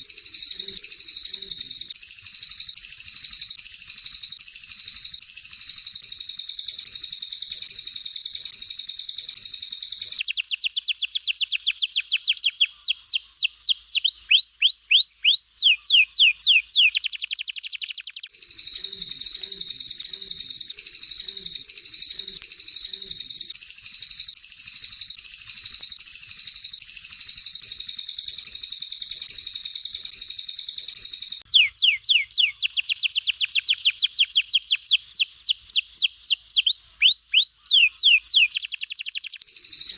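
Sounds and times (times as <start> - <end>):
songbird trill: 0.0 - 39.9.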